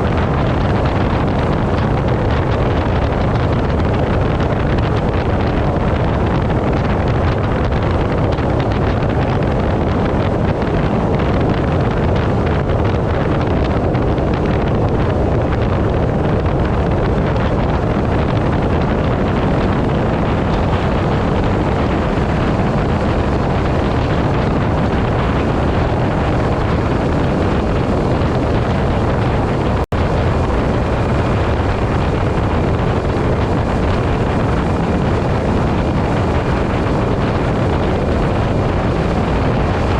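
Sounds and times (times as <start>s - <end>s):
water noise: 0.0s - 39.9s
wind rush on microphone: 0.0s - 39.9s.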